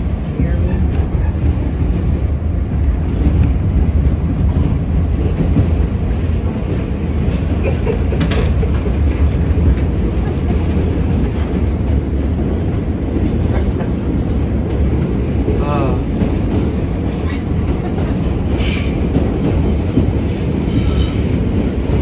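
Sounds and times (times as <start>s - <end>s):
subway car rumbling on rails: 0.0s - 22.0s.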